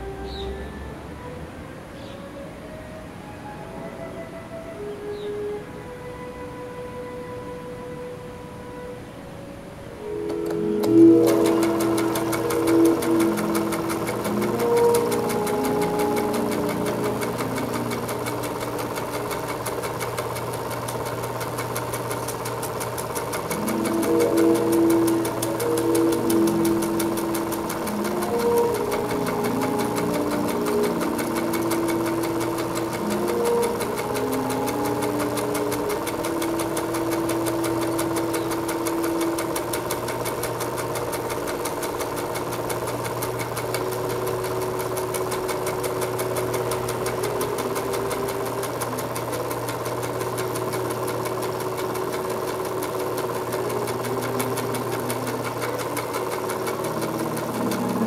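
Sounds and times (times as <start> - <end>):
low held tones: 0.0 - 58.0
motor hum: 0.0 - 58.0
film projector clattering: 10.0 - 58.0.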